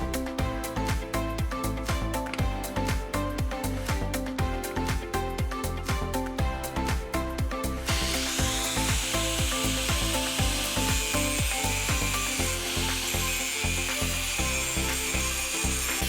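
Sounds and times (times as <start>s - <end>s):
bass-heavy background music: 0.0s - 16.0s.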